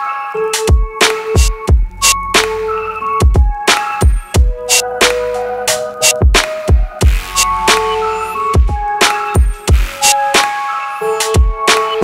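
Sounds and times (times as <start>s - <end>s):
background music with drum beat: 0.4s - 12.0s.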